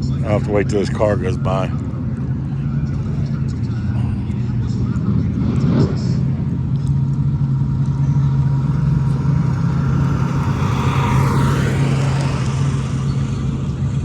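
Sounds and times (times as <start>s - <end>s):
car passing: 0.0s - 14.0s
drag racing engines droning: 0.0s - 14.0s.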